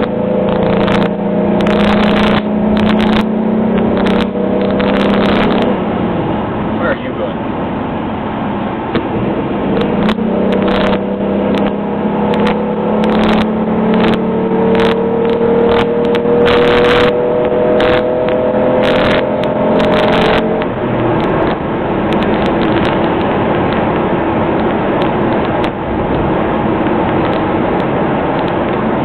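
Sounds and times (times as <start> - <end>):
sharp clicks and rattles: 0.0 - 5.7, 9.8 - 29.0
car engine at full throttle: 0.0 - 29.0.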